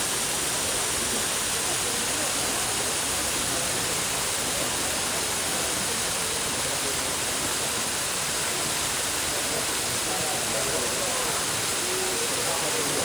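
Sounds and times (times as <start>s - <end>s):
faint distant voices: 0.0s - 13.0s
rushing falling water: 0.0s - 13.0s.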